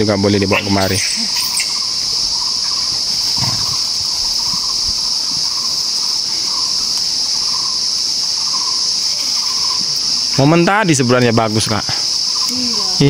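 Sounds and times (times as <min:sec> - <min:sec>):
faint insect chirps: 0:00.0 - 0:13.0
high-pitched insect drone: 0:00.0 - 0:13.0.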